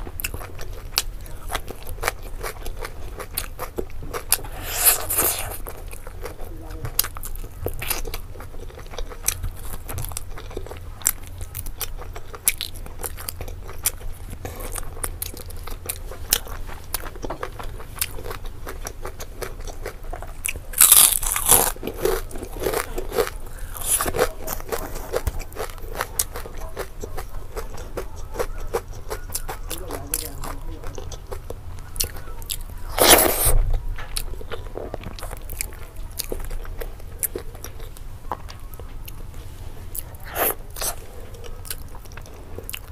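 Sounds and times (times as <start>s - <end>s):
person chewing chicken off the bone: 0.0s - 39.2s, 40.0s - 42.9s
low steady hum: 0.0s - 42.9s.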